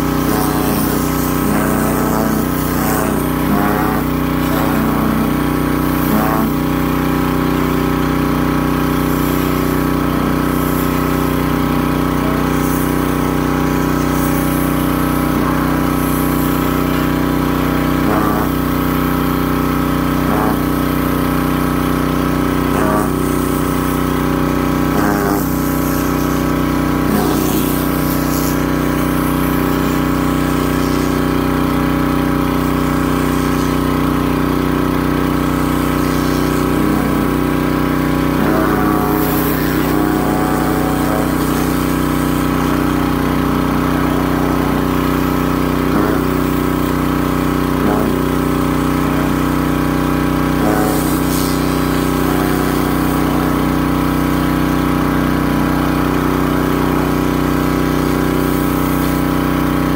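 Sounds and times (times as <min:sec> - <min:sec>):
water spray hiss: 0:00.0 - 0:59.8
pressure washer engine running: 0:00.0 - 0:59.9.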